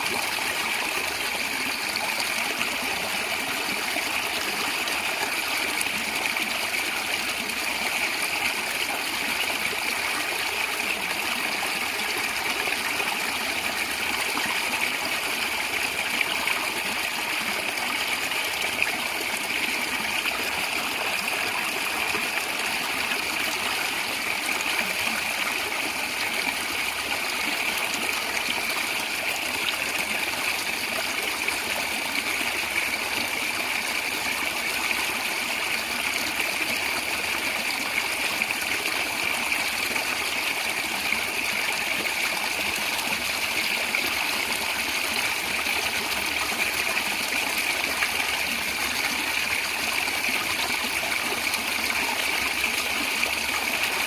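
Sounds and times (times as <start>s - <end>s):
stream flowing and gurgling: 0.0s - 54.0s.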